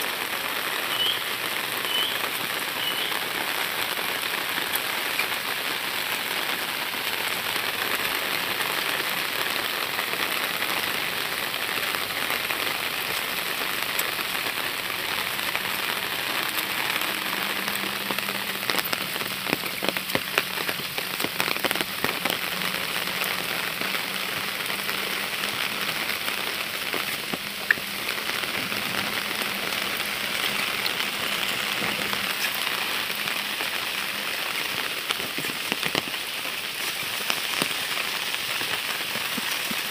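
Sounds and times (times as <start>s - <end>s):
heavy rain on leaves: 0.0s - 39.9s
raindrop hits: 0.0s - 39.9s.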